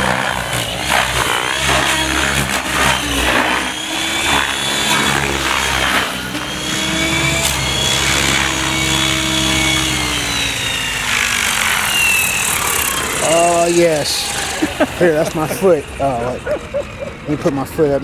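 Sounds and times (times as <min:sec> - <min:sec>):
rc helicopter motor and rotors: 0:00.0 - 0:18.0.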